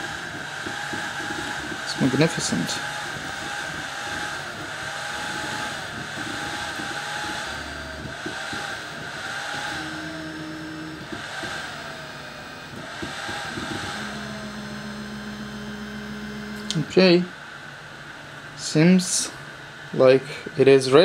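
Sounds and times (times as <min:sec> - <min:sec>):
whirring hiss: 0:00.0 - 0:17.4
stepper motors whining: 0:00.0 - 0:18.8
low steady hum: 0:00.0 - 0:21.0.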